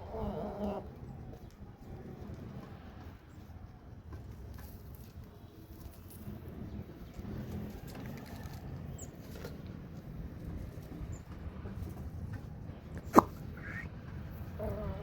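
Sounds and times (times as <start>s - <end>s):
faint chickens clucking: 0.0s - 3.6s, 5.1s - 15.0s.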